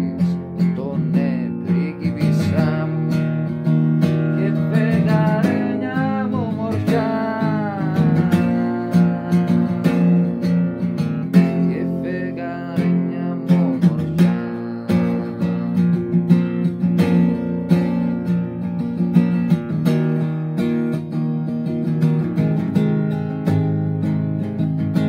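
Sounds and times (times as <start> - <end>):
acoustic guitar strumming chords: 0.0 - 25.0.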